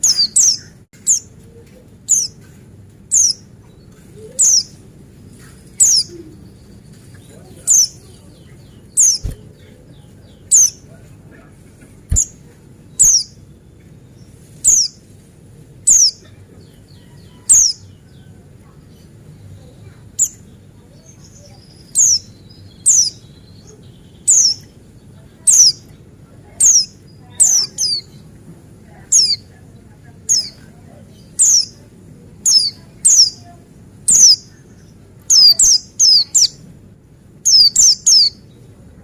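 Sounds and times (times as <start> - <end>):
faint soft bird twittering: 0.0 - 36.7, 37.3 - 38.9.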